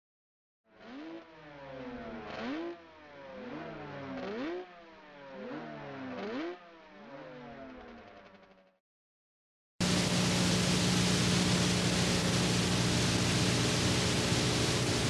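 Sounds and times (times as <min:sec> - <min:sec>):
motorcycle engine revving: 0:00.7 - 0:08.7, 0:09.8 - 0:15.0.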